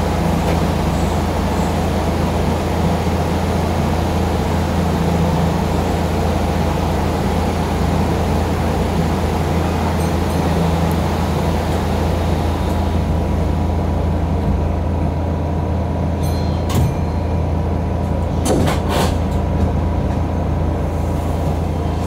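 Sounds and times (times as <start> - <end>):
electric train low hum: 0.0 - 22.0.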